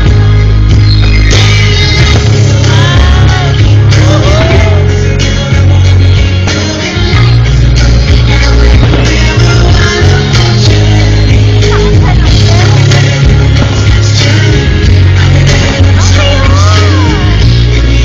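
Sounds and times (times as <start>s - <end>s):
rock song with singing: 0.0s - 18.0s.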